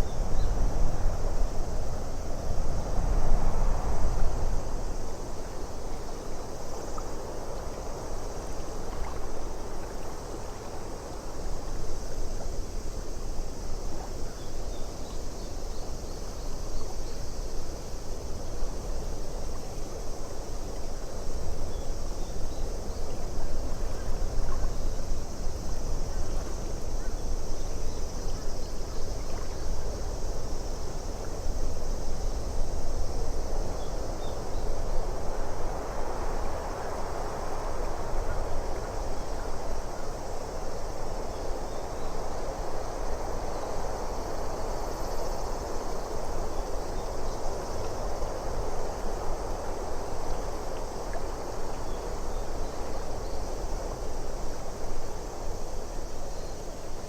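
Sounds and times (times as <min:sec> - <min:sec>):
wind: 0:00.0 - 0:57.0
moving water: 0:00.2 - 0:57.0.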